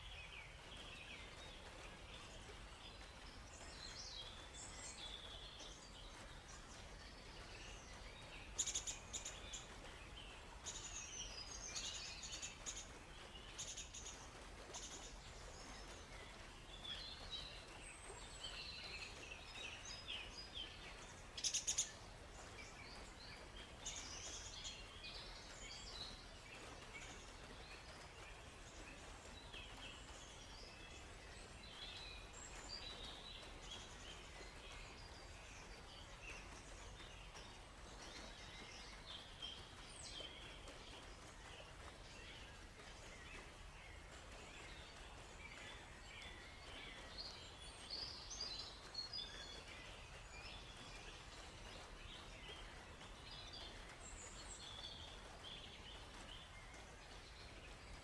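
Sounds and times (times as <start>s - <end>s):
faint steady hiss: 0.0s - 58.0s
songbirds chirping: 0.0s - 58.0s.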